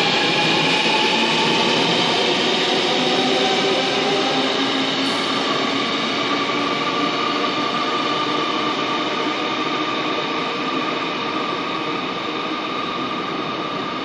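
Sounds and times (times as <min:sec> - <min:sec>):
metro platform hum and rumble: 0:00.0 - 0:14.0.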